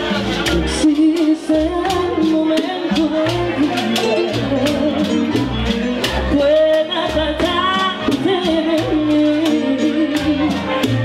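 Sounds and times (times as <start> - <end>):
live band music: 0.0 - 11.0
woman singing lead: 0.5 - 11.0.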